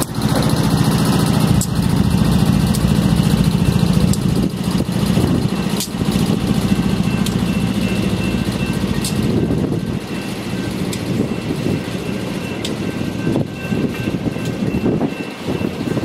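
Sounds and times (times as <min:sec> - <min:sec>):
train wheels rumbling on rail: 0:00.0 - 0:16.0
wheels clicking: 0:00.0 - 0:16.0.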